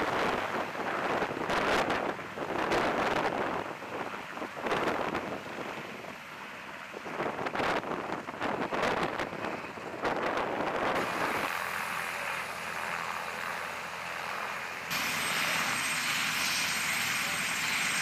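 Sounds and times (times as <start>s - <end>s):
helicopter rotors turning: 0.0s - 18.0s
helicopter turbine whine: 0.0s - 18.0s.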